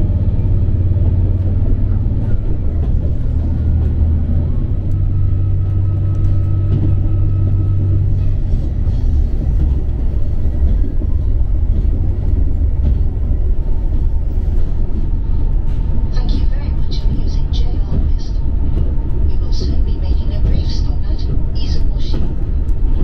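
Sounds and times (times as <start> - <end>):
engine hum: 0.0 - 23.0
vehicle rumble: 0.0 - 23.0.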